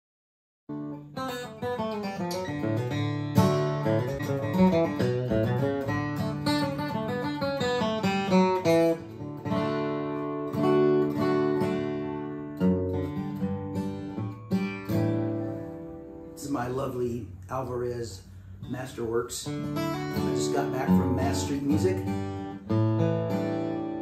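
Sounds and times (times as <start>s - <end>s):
acoustic guitar picking: 0.7s - 24.0s.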